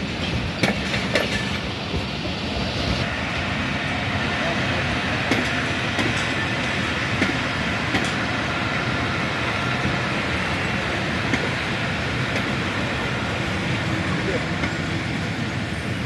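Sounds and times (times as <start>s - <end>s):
train coaches rumbling: 0.0s - 16.0s
wheels clicking over rail joints: 0.1s - 2.2s, 4.8s - 16.0s.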